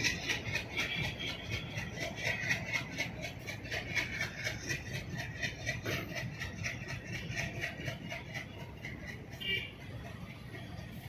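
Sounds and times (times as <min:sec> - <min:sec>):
freight train wheels rumbling: 0:00.0 - 0:11.0
rapid rattle of wagons: 0:00.0 - 0:11.0.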